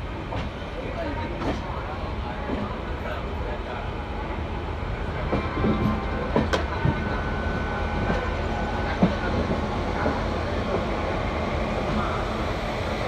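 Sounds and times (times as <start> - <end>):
train rumbling on tracks: 0.0 - 13.0.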